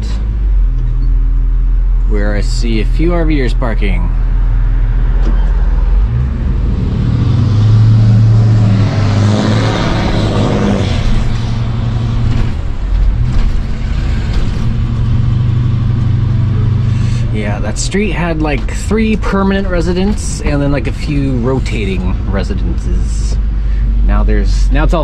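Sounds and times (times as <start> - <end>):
engine accelerating and running: 0.0 - 25.0.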